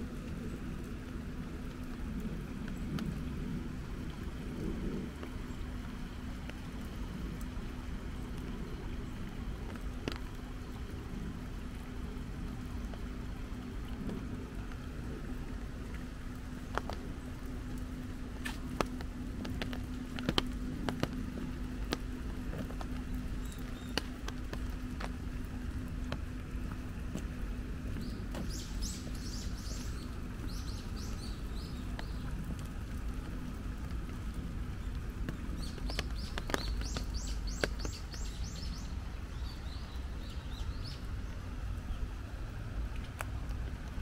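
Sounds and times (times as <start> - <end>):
light rain pattering: 0.0 - 44.0
steady low hum: 0.0 - 44.0.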